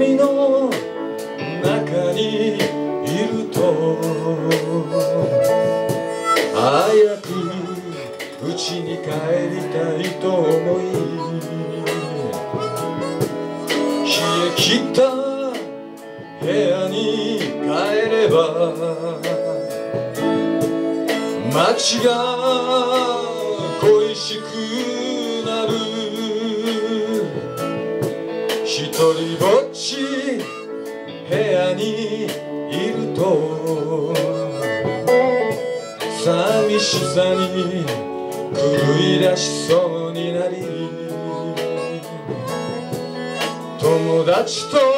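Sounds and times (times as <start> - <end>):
bass guitar: 0.0 - 44.9
drums: 0.0 - 44.9
electric guitars: 0.0 - 44.9
harmonica melody: 0.0 - 44.9.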